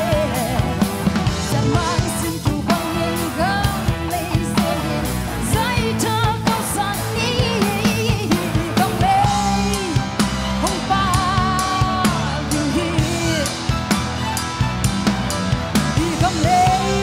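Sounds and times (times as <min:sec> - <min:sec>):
woman singing with vibrato: 0:00.0 - 0:13.6, 0:15.9 - 0:17.0
electric guitar: 0:00.0 - 0:17.0
keyboard: 0:00.0 - 0:17.0.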